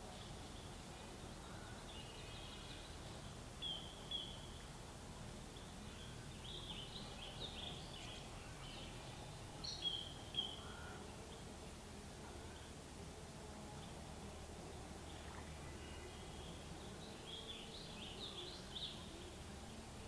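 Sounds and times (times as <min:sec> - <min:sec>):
small birds chirping: 0:00.0 - 0:12.9, 0:13.7 - 0:20.0
faint background hiss: 0:00.0 - 0:20.0.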